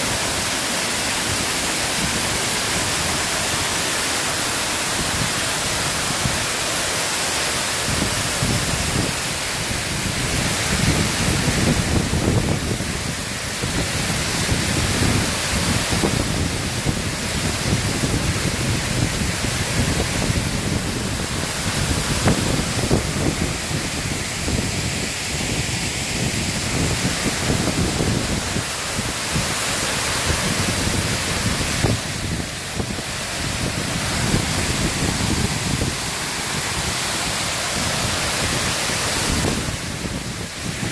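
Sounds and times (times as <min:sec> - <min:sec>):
water crashing over dam spillway: 0:00.0 - 0:40.9.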